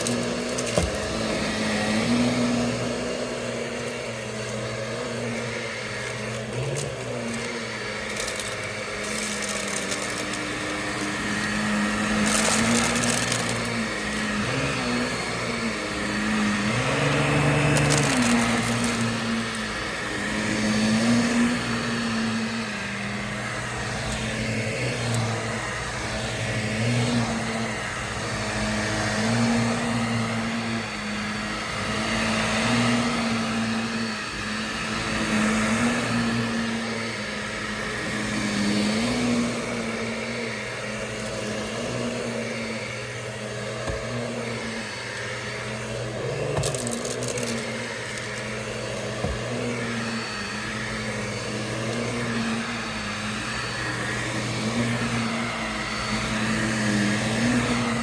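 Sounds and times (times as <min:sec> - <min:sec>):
vacuum cleaner running over carpet: 0:00.0 - 0:58.0.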